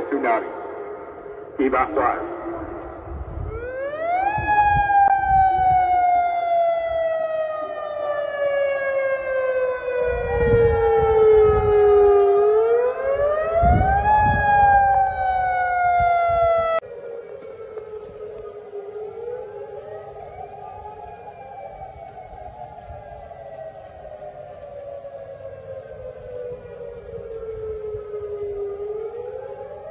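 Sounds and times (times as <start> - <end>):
faint second siren: 0.0 - 29.9
siren wailing: 0.0 - 29.9.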